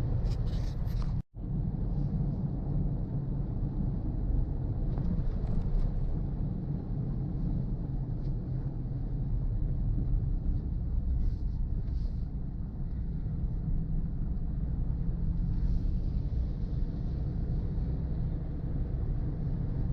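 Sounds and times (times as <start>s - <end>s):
car engine and tyres rumbling: 0.0s - 19.9s.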